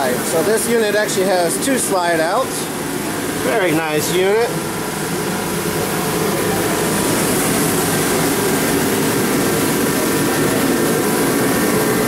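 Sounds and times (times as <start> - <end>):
blowers rushing air: 0.2 - 12.0.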